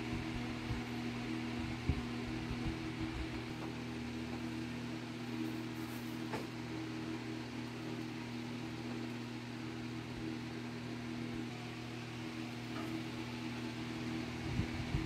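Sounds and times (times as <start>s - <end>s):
low mechanical hum with hiss: 0.0s - 15.0s.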